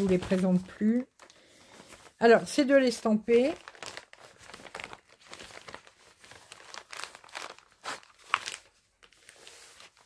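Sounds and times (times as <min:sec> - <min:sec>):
plastic pouch crinkling: 0:00.0 - 0:10.0.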